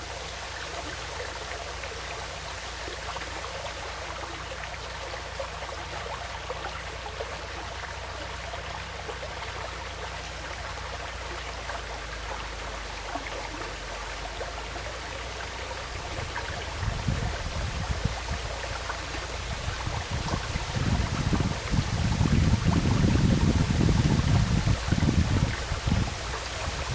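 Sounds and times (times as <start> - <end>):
stream flowing: 0.0 - 26.9
low irregular rumbles: 1.8 - 26.9.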